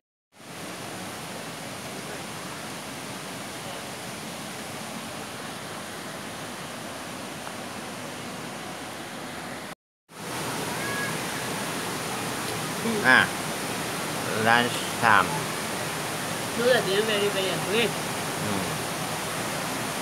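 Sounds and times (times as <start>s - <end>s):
waterfall rushing: 0.4s - 20.0s.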